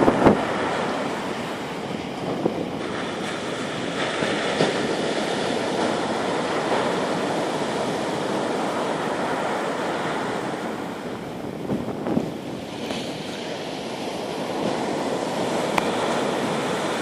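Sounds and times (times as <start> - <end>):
sea surf washing onto beach: 0.0 - 17.0.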